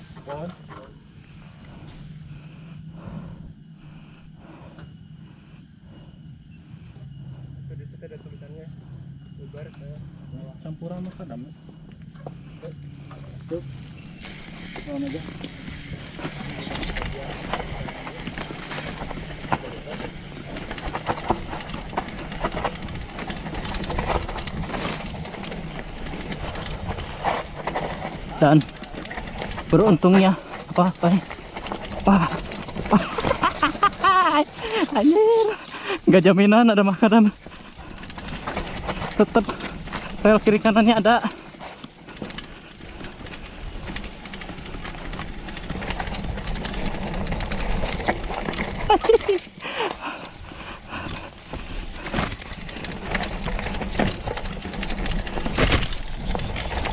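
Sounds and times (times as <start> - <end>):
bike tyres rolling on dirt: 0.0 - 7.5, 8.2 - 56.9
bike clicking and rattling: 10.9 - 56.9.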